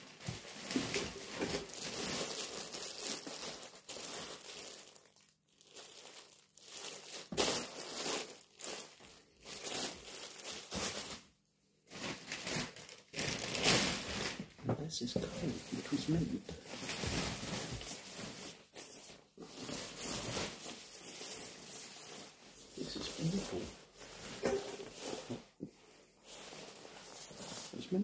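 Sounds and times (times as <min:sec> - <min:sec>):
plastic bag crinkling and rustling: 0:00.0 - 0:28.0.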